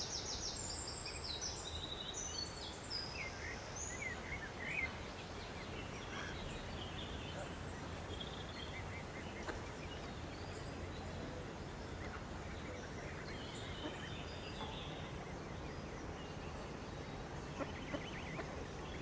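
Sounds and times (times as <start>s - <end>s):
bird calls and chirps: 0.0s - 19.0s.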